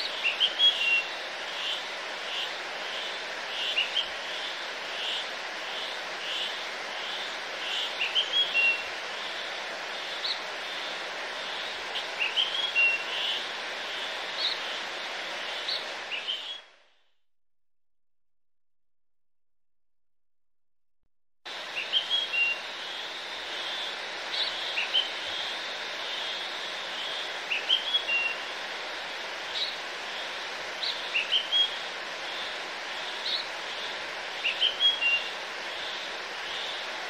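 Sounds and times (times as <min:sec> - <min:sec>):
background hiss: 0:00.0 - 0:16.6, 0:21.5 - 0:37.0.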